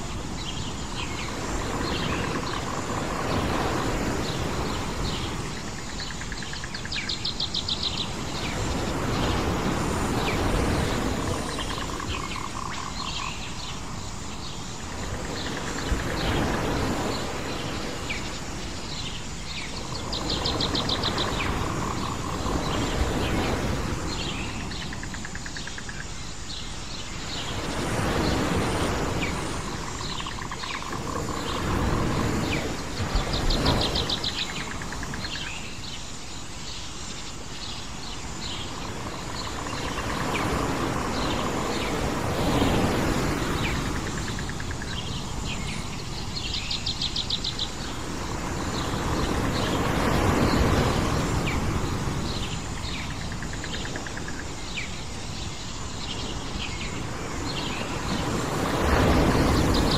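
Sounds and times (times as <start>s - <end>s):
surf-like wash: 0.0s - 59.9s
birds chirping: 0.3s - 59.9s.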